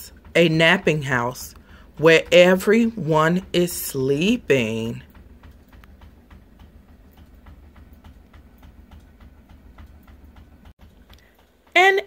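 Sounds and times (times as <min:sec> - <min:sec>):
faint regular ticking: 0:00.1 - 0:12.0.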